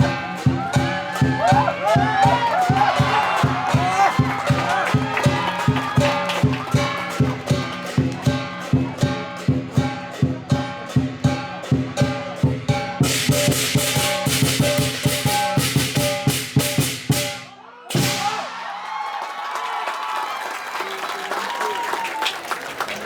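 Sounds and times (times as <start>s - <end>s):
big drum beating: 0.0s - 18.5s
cymbals clashing: 0.0s - 18.6s.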